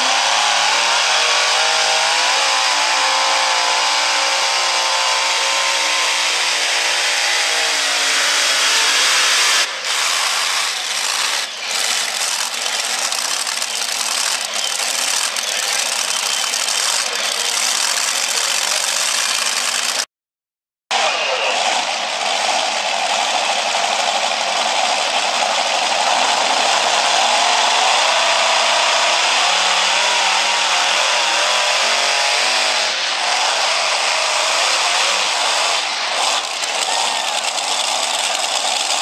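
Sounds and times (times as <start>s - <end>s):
tractor engines revving: 0.0s - 20.1s, 20.9s - 39.0s.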